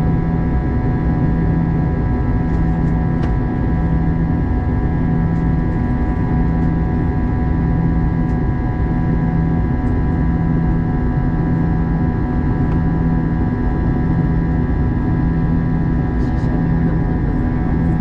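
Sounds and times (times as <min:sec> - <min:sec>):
airplane cabin engine drone: 0:00.0 - 0:18.0.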